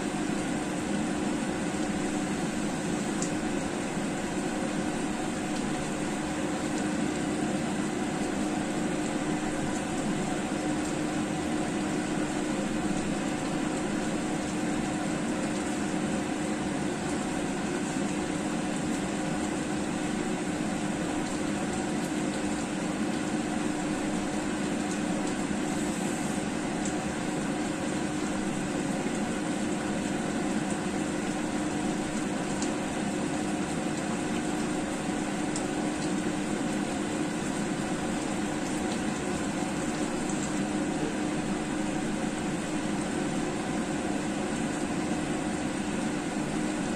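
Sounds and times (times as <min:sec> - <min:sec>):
curry simmering in a pan: 0:00.0 - 0:46.9.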